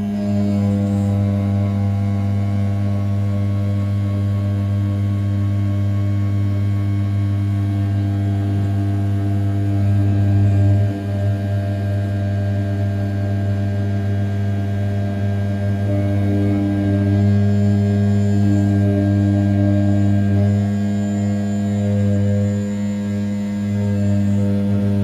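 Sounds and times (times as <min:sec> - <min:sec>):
cnc mill cutting aluminium: 0:00.0 - 0:25.0.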